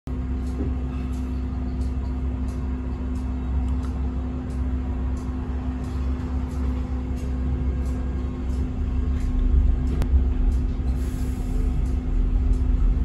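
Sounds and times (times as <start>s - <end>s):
tram rumbling: 0.1s - 13.0s.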